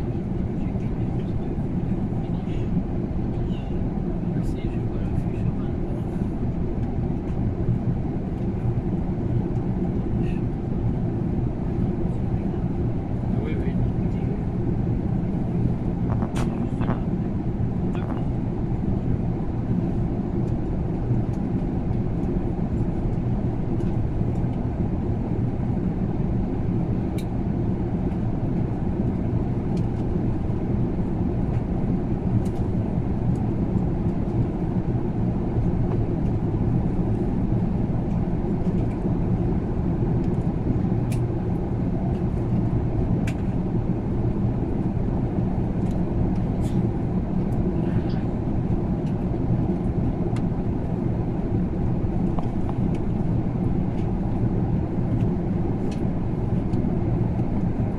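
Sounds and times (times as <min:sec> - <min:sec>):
airliner cabin engine drone: 0:00.0 - 0:57.9.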